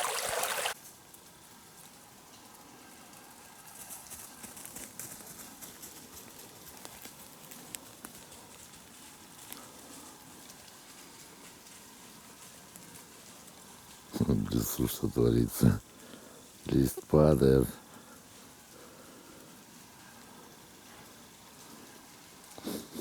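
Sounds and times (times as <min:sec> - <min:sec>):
falling leaves pattering: 0:00.0 - 0:22.8
faint rustle: 0:00.8 - 0:23.0.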